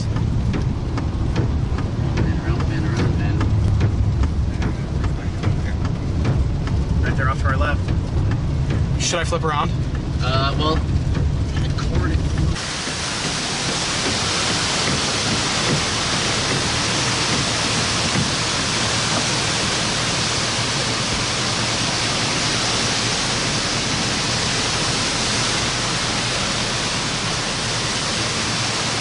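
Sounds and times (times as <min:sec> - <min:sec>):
heavy rain: 0:00.0 - 0:29.0.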